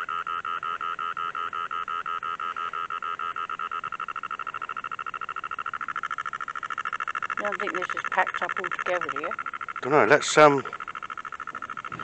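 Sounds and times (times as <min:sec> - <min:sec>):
rapid high-pitched beeps: 0:00.0 - 0:12.0.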